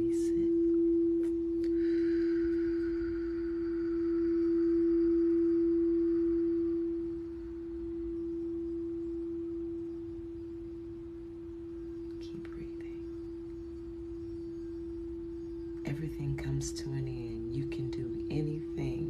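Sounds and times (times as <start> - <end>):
crystal singing bowl ringing: 0.0 - 19.0.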